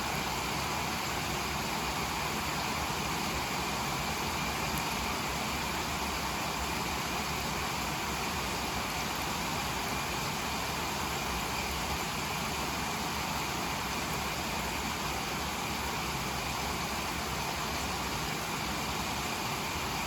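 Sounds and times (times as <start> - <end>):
rain falling on leaves: 0.0 - 20.0.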